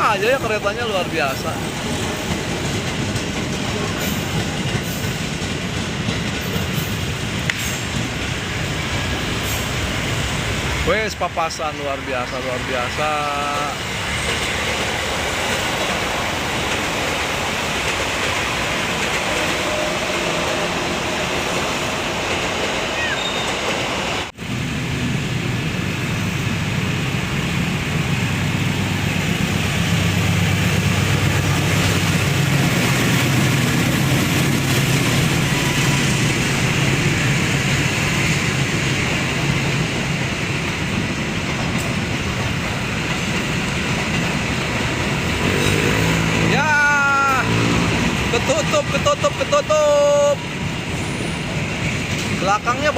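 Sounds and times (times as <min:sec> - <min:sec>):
trains rolling past: 0:00.0 - 0:52.9.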